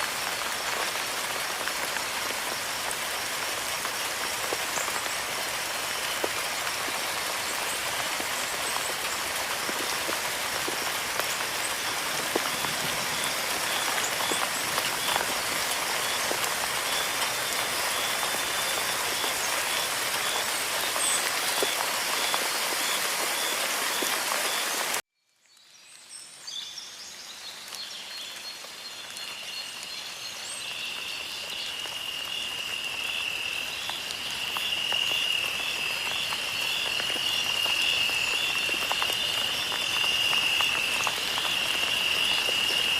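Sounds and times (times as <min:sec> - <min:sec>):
steady rain falling: 0:00.0 - 0:25.0, 0:25.8 - 0:42.9.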